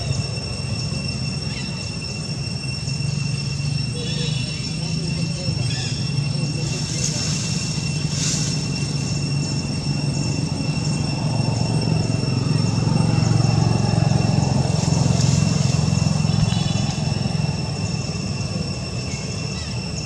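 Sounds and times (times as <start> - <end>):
high-pitched whine: 0.0 - 20.0
vehicle engine humming: 0.0 - 20.0.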